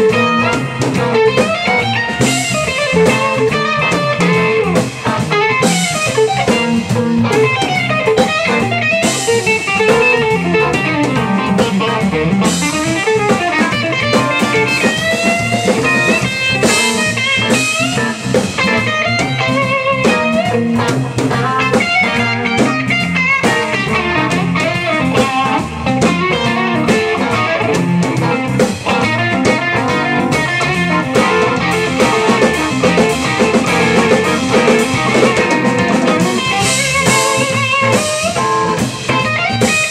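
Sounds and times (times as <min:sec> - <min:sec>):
drum kit: 0:00.0 - 0:39.9
electric guitar lead with bent notes: 0:00.0 - 0:39.9.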